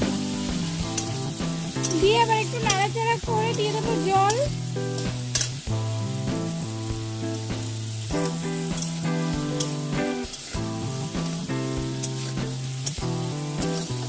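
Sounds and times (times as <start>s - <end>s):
background music with held notes: 0.0s - 14.0s
vegetables sizzling in hot oil: 0.0s - 14.0s.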